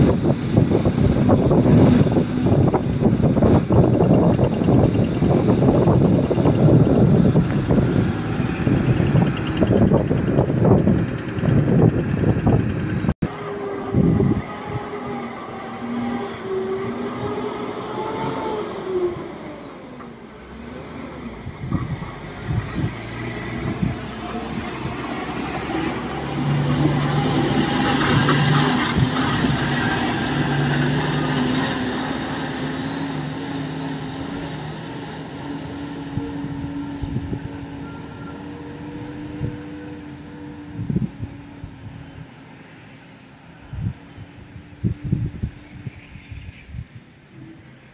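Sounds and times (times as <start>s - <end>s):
diesel engines running: 0.0s - 45.6s.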